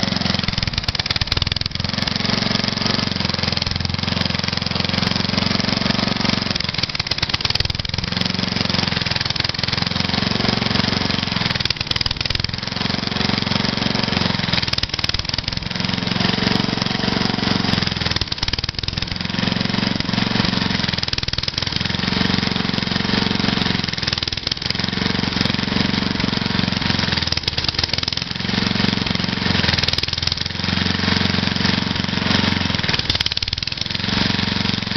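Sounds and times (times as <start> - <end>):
lawn mower engine running: 0.0 - 34.9.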